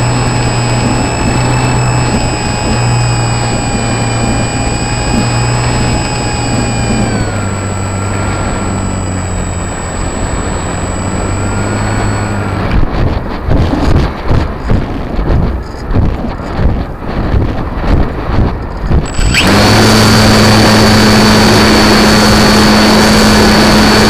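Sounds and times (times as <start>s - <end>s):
model airplane motor whining: 0.0s - 14.0s, 18.6s - 24.0s
wind gusts over microphone: 0.0s - 24.0s.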